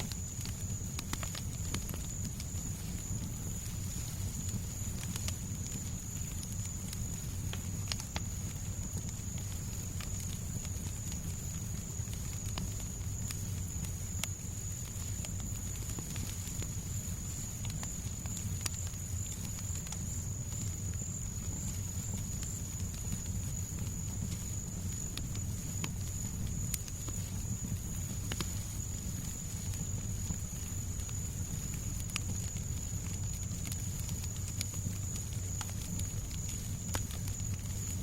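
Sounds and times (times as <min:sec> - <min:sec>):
fireplace crackling and popping: 0:00.0 - 0:38.0.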